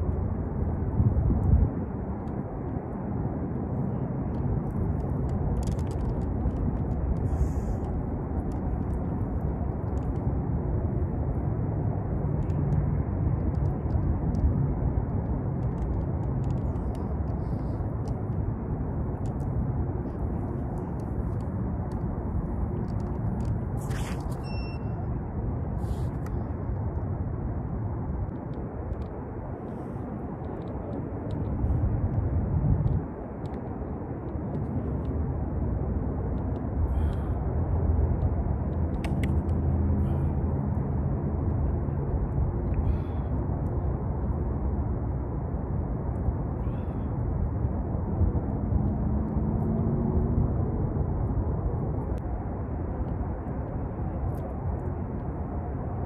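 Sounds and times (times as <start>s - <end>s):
low outdoor rumble: 0.0s - 56.0s.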